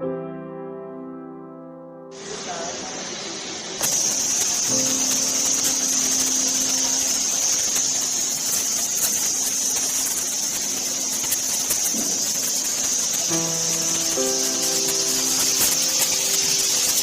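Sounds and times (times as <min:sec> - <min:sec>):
floor-cleaning machine whine: 0:02.1 - 0:17.0.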